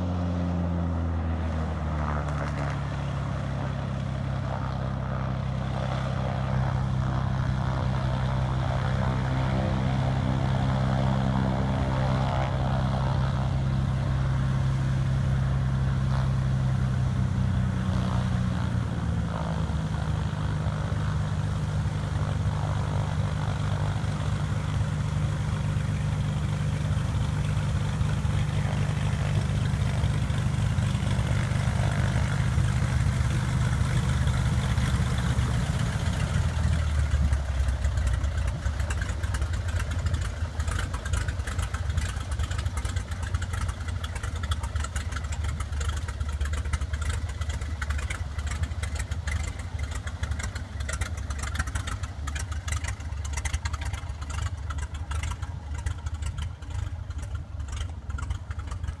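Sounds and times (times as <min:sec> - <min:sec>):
floatplane engine and propeller idling: 0:00.0 - 0:59.0.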